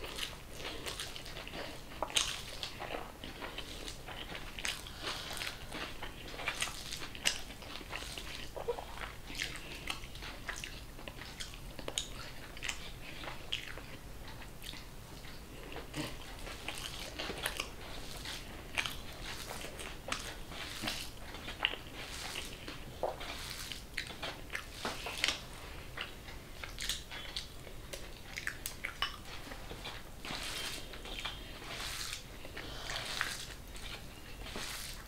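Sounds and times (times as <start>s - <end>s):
fingers mixing rice on plate: 0.0s - 35.0s
person chewing food: 0.0s - 35.0s.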